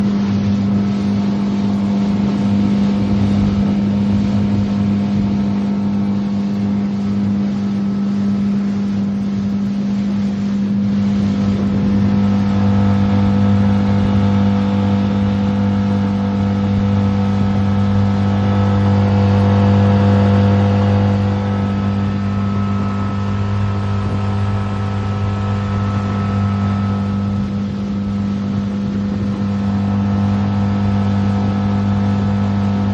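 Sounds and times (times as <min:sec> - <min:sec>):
motorboat engine running: 0:00.0 - 0:32.9.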